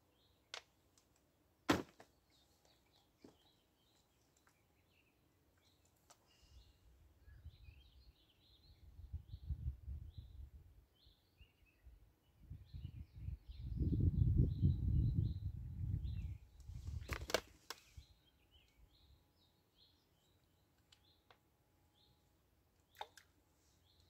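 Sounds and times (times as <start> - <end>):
small birds chirping: 2.1 - 10.4, 12.5 - 24.0.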